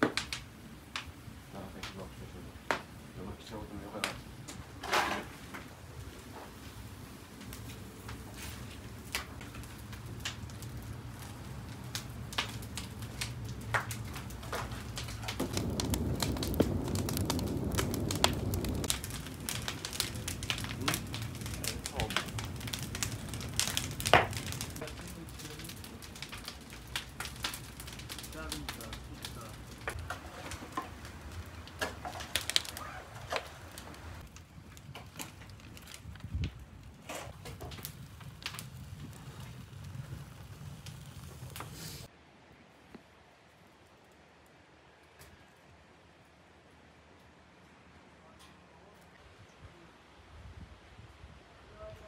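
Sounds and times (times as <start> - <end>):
flames rushing: 0.0 - 42.1
low rumble of fire: 0.0 - 52.0
wood fire crackling: 0.0 - 52.0.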